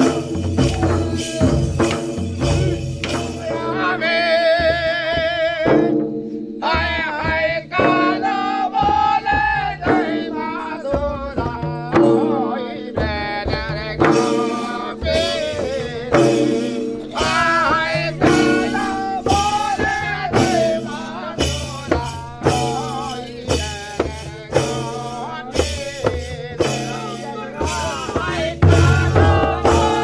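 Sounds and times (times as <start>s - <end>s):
barrel drum strokes: 0.0s - 30.0s
folk singing: 0.0s - 30.0s.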